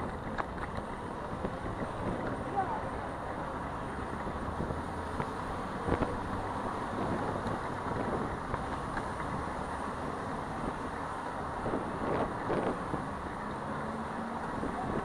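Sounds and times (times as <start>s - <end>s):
passing vehicles: 0.0s - 15.0s.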